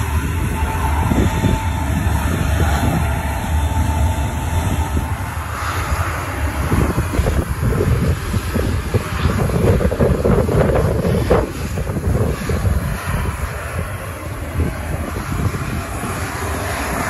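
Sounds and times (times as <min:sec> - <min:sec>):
high engine whine: 0:00.0 - 0:17.0
jet engines rumbling: 0:00.0 - 0:17.0.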